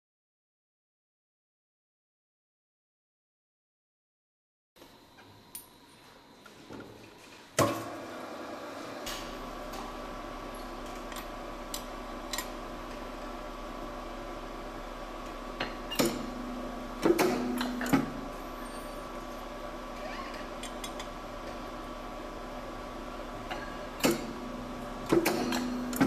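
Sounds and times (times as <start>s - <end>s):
machine low hum: 4.8s - 26.0s.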